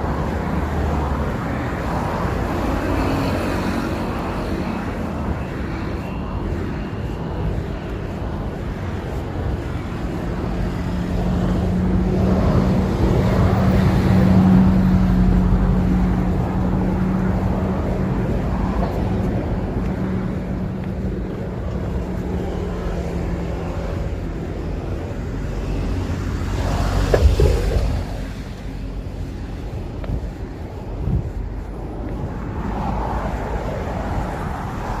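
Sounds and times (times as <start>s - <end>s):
city street traffic: 0.0s - 35.0s
vehicle engine hum passing: 0.0s - 35.0s.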